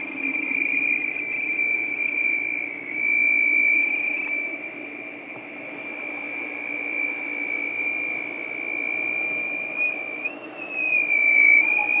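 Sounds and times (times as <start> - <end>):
high-pitched pump whine: 0.0 - 12.0.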